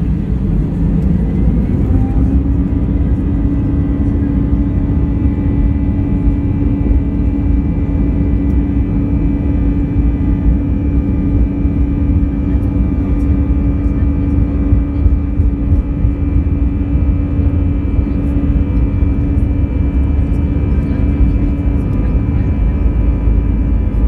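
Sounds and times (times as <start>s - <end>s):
airplane cabin engine and airflow noise: 0.0s - 24.0s.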